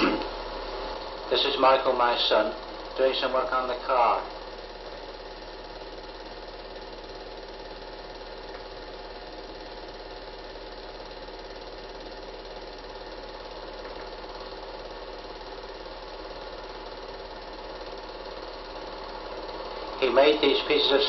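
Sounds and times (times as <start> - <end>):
film projector whirring and rattling: 0.0 - 21.0
low mains hum: 0.0 - 21.0.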